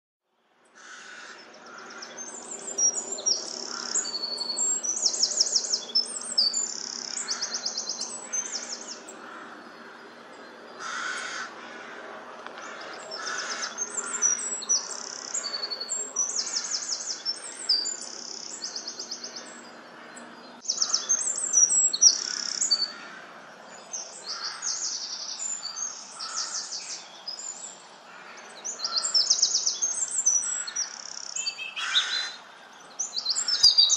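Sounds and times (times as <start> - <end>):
birds chirping and trilling: 0.4 - 33.9
harsh bird calls: 0.6 - 33.9.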